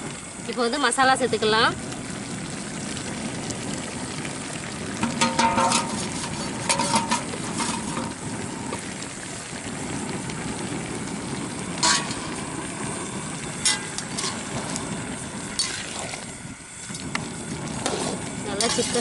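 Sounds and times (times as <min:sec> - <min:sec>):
chicken frying in pot: 0:00.0 - 0:19.0.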